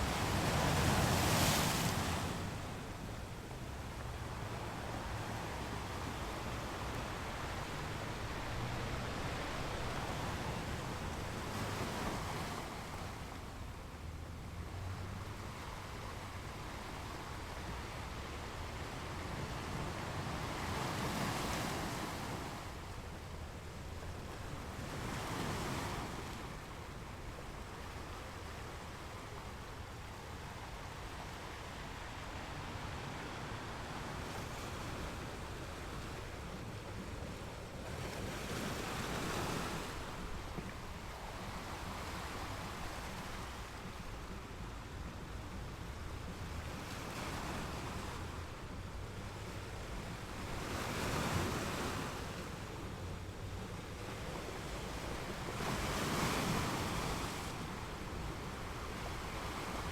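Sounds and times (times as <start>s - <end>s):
ocean waves washing onto beach: 0.0s - 59.9s.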